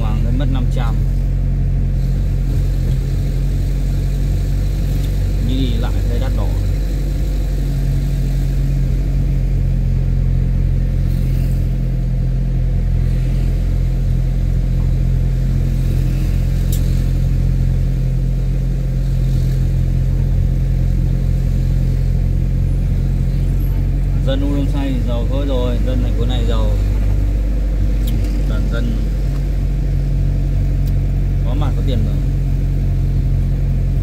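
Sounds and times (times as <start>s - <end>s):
engine drone: 0.0s - 34.0s
road and wind noise: 0.0s - 34.0s.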